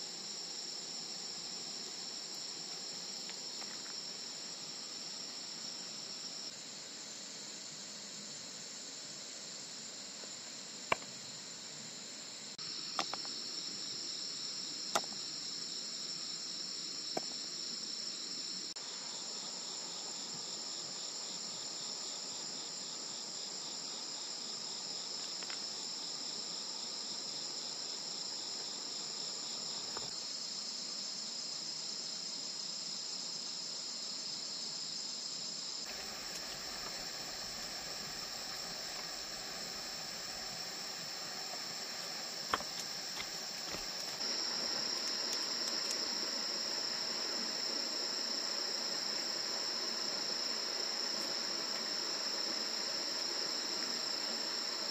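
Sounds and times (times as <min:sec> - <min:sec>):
night insects chirring: 0:00.0 - 0:54.9.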